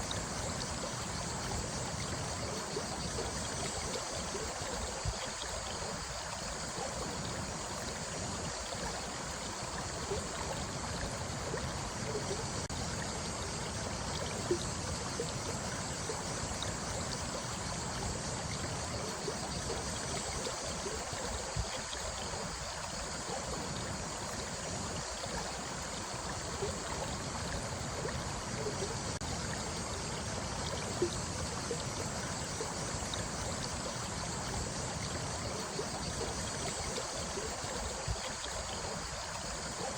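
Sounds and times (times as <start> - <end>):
running water: 0.0 - 39.9
water plinks: 0.0 - 39.9.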